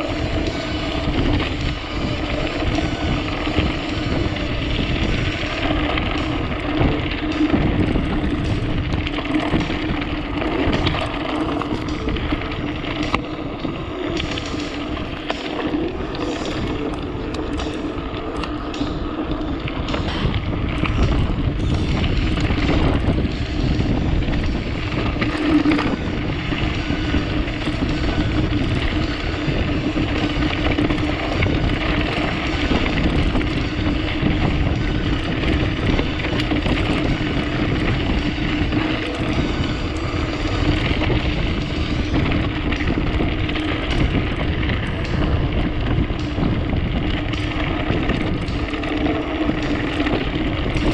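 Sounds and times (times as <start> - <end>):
bike rolling on dirt trail: 0.0 - 50.9
steady hum: 0.0 - 50.9
wind buffeting microphone: 0.0 - 50.9.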